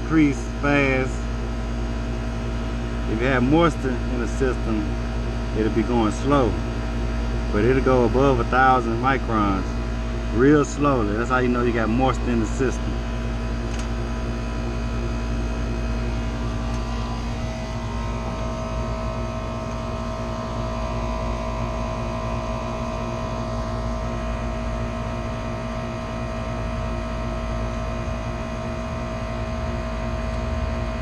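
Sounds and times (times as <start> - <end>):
machinery humming: 0.0 - 30.8.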